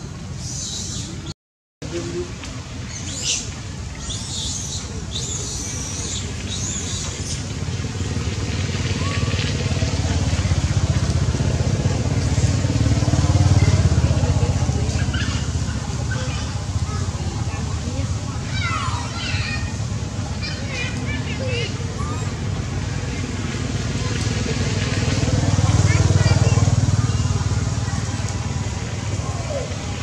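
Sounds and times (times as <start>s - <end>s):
passing vehicle engine rumble: 4.6s - 30.0s.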